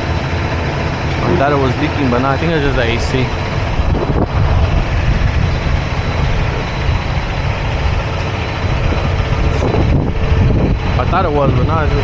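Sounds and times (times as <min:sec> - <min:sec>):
road noise hissing: 0:00.0 - 0:12.0
truck engine drone: 0:00.0 - 0:12.0.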